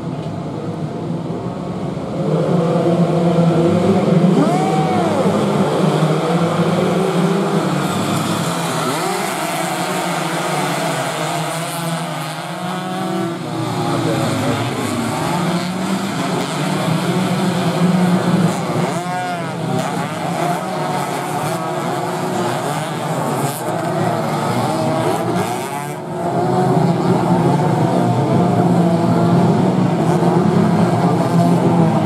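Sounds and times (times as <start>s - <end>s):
racing motorcycles revving: 0.0s - 32.0s.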